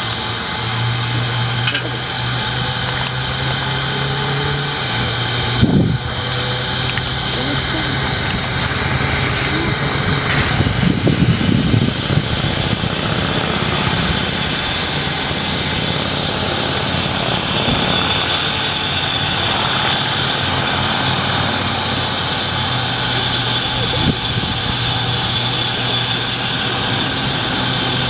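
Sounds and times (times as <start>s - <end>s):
steam locomotive hissing: 0.0s - 28.0s
thin high whine: 0.0s - 28.0s.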